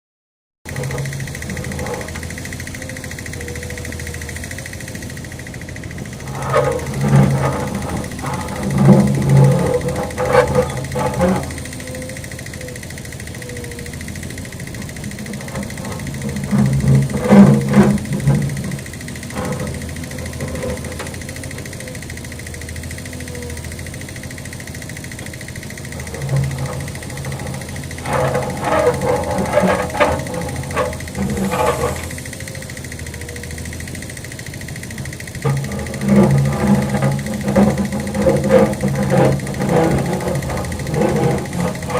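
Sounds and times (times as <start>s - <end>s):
backhoe engine running: 0.7s - 41.9s.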